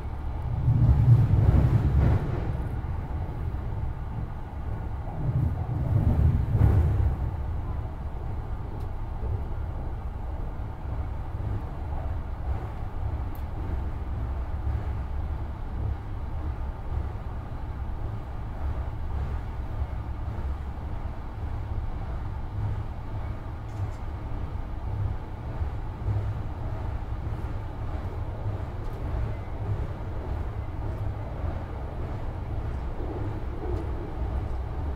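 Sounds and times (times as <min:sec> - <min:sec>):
electric train rumbling on bridge: 0:00.0 - 0:34.9.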